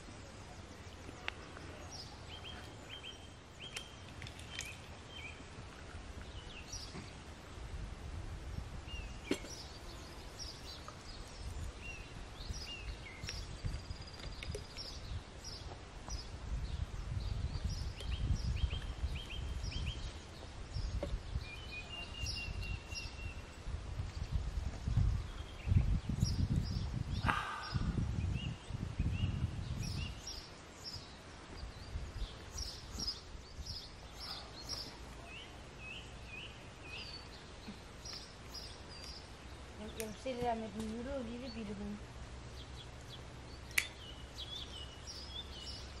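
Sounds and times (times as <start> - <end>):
birds chirping and trilling: 0.0 - 7.2, 8.6 - 46.0.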